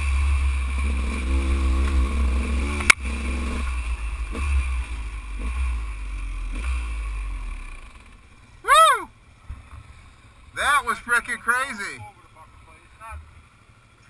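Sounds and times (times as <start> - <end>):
dirt bike engine: 0.0 - 14.0.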